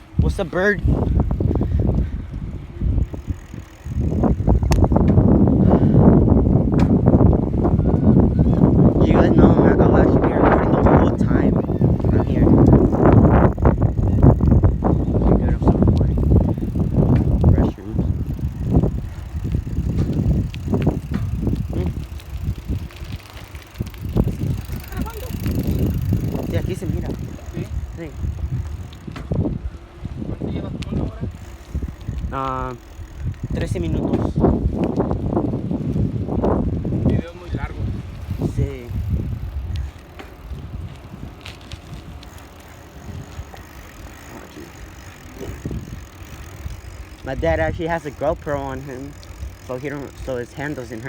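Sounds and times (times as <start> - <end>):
bicycle rumbling: 0.0 - 51.0
bike and phone rattles: 0.0 - 51.0.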